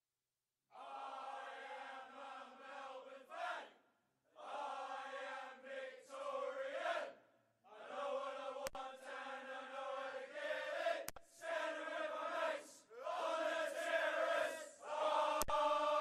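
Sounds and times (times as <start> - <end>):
men chanting in long held notes: 0.7 - 16.0.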